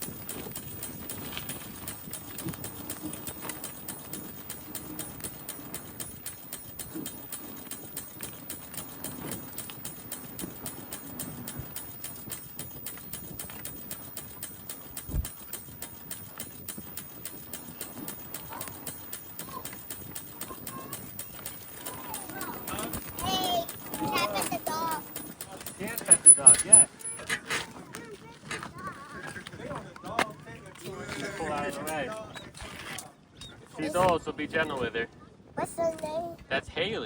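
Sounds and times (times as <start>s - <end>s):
bicycle rhythmic clicking: 0.0s - 34.9s, 35.6s - 36.4s.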